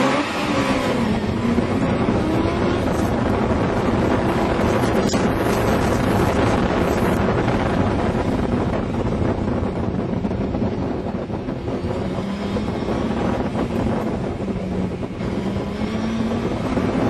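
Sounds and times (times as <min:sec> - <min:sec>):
sports car engine running hard: 0:00.0 - 0:17.0
wind buffeting microphone: 0:00.0 - 0:17.0.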